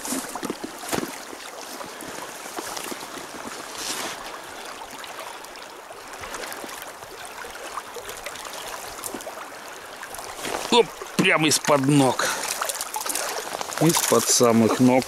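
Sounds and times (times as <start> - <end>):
river current rushing and babbling: 0.0 - 15.0.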